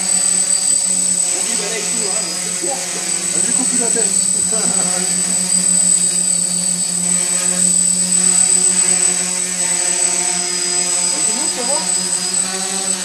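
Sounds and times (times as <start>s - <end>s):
quadcopter buzzing hum: 0.0s - 13.0s.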